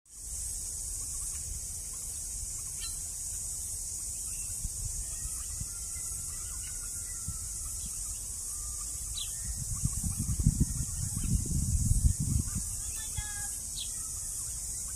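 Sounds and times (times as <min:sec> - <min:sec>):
faint bird chirps: 0:00.1 - 0:14.9
high-pitched insect chorus: 0:00.1 - 0:14.9.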